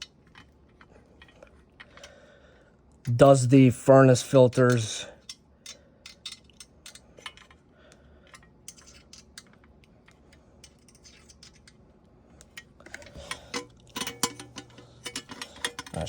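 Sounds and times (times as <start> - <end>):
small metal parts clicking: 0.0 - 2.2, 4.6 - 16.0.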